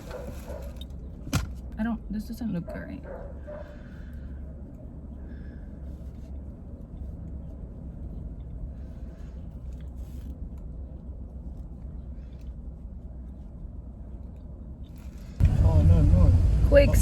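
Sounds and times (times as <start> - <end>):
vehicle road and wind noise: 0.0 - 17.0.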